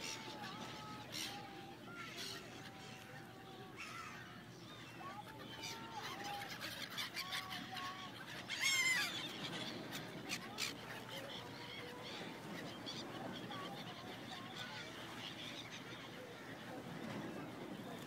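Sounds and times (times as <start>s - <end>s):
seagulls calling: 0.0s - 18.0s.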